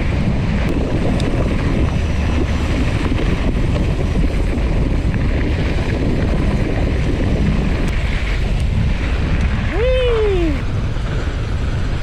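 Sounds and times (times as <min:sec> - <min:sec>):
bike tyres rolling on gravel: 0:00.0 - 0:12.0
wind rushing over microphone: 0:00.0 - 0:12.0.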